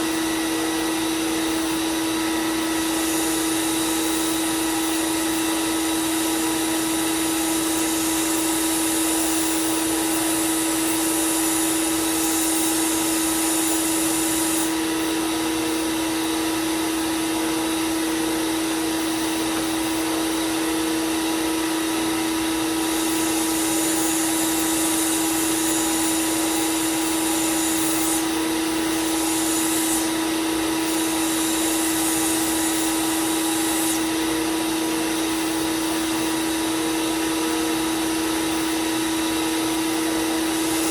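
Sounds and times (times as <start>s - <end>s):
belt sander motor hum: 0.0s - 40.9s.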